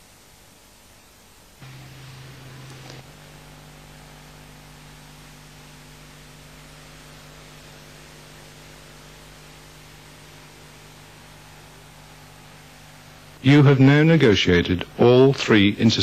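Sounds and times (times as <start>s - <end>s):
electrical mains hum: 0.0s - 16.0s
videotape hiss: 0.0s - 16.0s.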